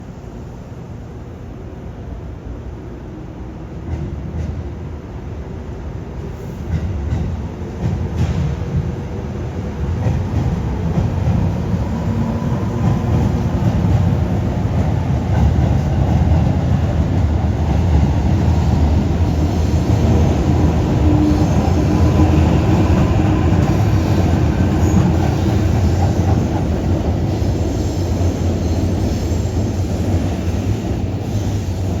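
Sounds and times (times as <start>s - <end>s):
train motors and wheels rumbling: 0.0s - 32.0s.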